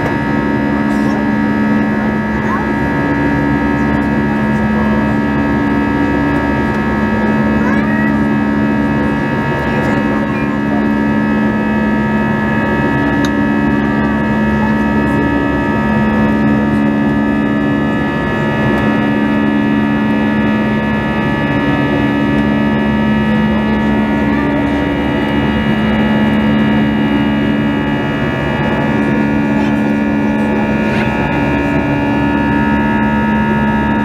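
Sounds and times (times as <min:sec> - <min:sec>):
jet airliner cabin drone: 0:00.0 - 0:34.0
low pulsing tone: 0:00.0 - 0:34.0.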